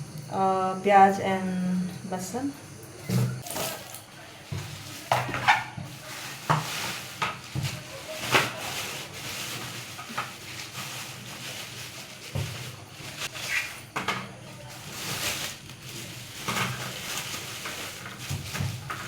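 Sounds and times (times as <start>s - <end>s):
rustling of vegetable bags: 3.2s - 19.0s.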